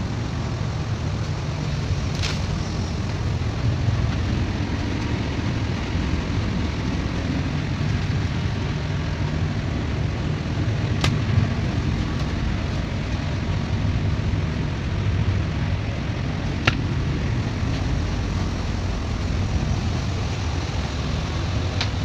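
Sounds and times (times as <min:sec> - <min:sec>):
ship machinery drone: 0:00.0 - 0:22.0.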